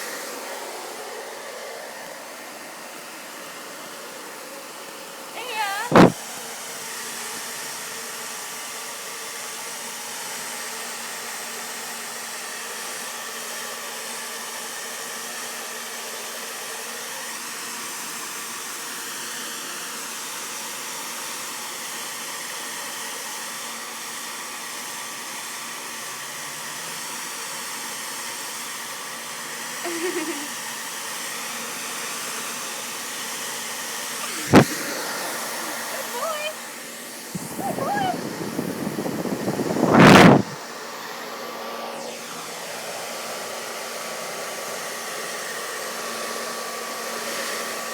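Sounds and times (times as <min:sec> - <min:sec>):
hair dryer blowing: 0:00.0 - 0:47.9.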